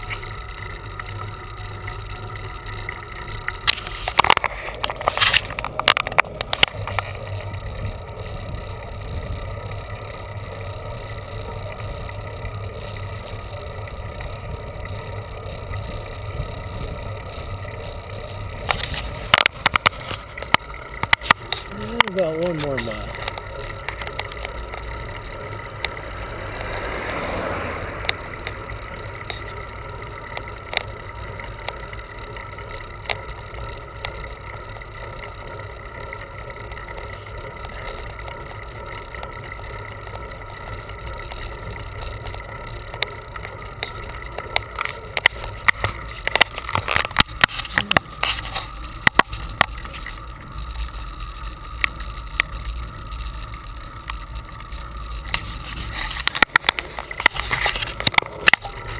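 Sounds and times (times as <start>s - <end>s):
bicycle clicks and rattles: 0.0s - 58.9s
wind and tyres rumbling: 0.0s - 58.9s.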